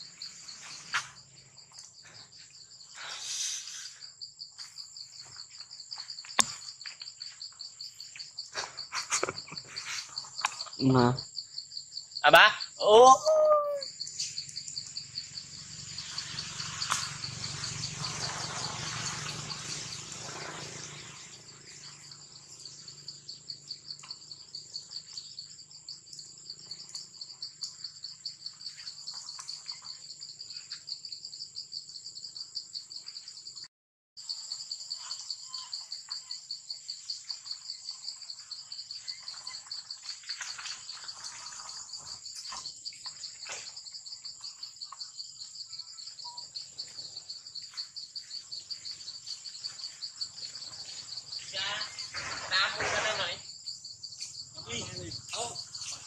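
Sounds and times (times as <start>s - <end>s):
forest insects trilling: 0.0s - 56.0s.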